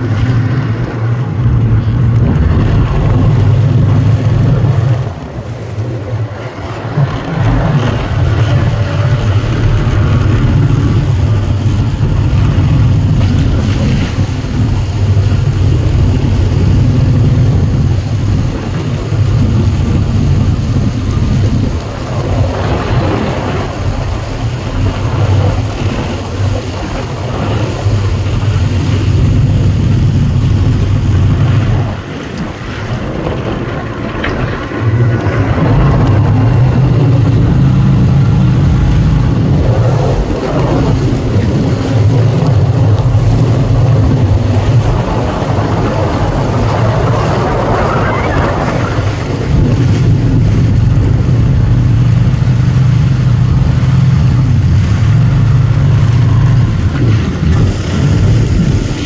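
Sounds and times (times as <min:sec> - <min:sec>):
water rushing: 0:00.0 - 0:59.0
watercraft engine drone: 0:00.0 - 0:59.0
wind buffeting microphone: 0:00.0 - 0:59.0.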